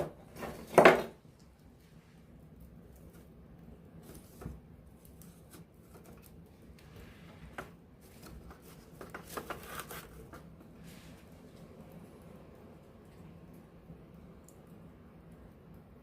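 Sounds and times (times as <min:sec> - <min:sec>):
faint low background noise: 0:00.0 - 0:16.0.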